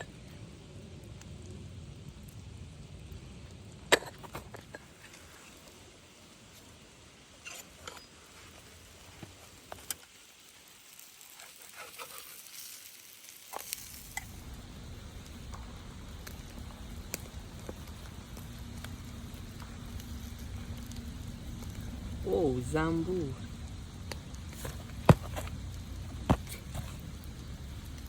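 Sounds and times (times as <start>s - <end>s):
food sizzling: 0.0s - 28.0s
small clicks and crackles: 3.3s - 6.8s, 7.4s - 22.4s, 23.1s - 28.0s.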